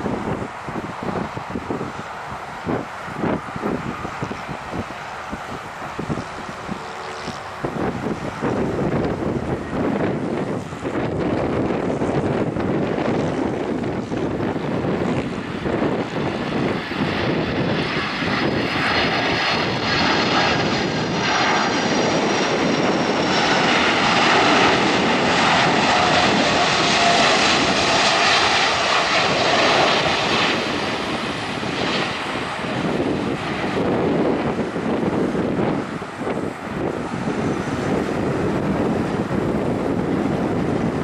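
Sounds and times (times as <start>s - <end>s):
jet engines rumbling and whining: 0.0s - 41.0s.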